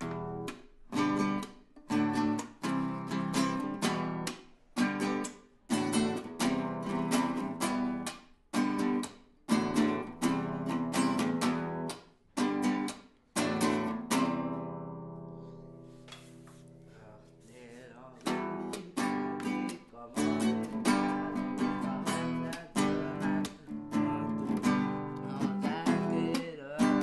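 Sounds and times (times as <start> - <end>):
acoustic guitar strummed chords: 0.0 - 27.0.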